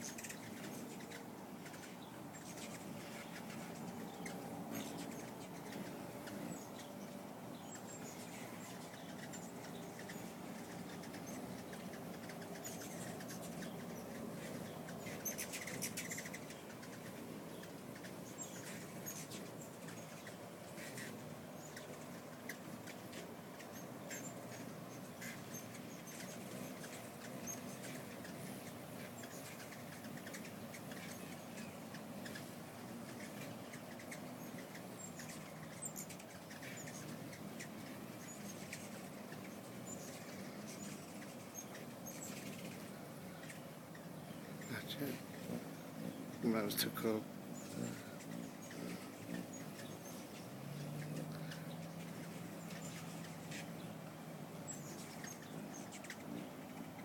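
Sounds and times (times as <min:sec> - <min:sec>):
hummingbird wings humming: 0:00.0 - 0:57.0.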